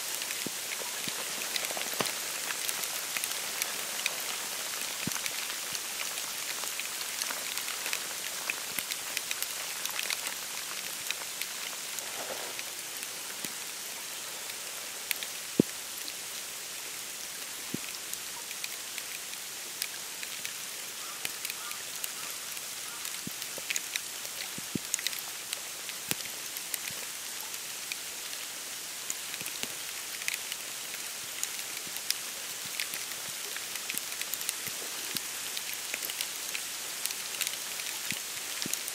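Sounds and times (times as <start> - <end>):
snow pattering on reeds: 0.0 - 38.9.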